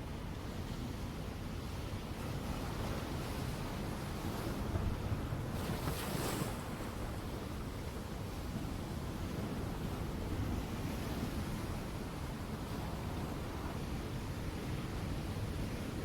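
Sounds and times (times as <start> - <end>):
rumble of ocean waves: 0.0 - 16.0.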